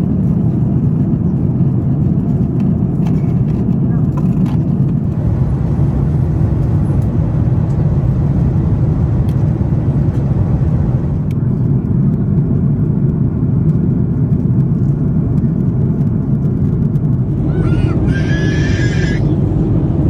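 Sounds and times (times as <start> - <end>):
airplane cabin engine and airflow noise: 0.0 - 20.0.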